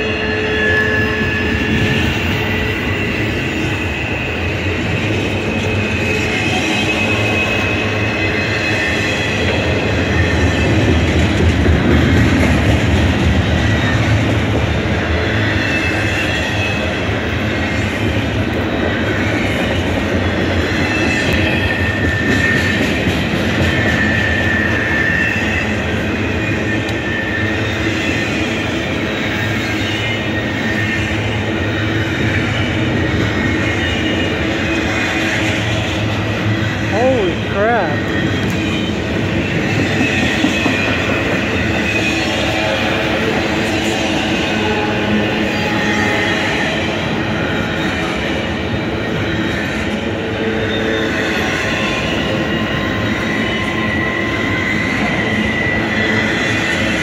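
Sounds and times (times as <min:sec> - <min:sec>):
faint high wheel squeals: 0:00.0 - 0:11.2, 0:13.1 - 0:57.0
train wheels rumbling on rails: 0:00.0 - 0:57.0.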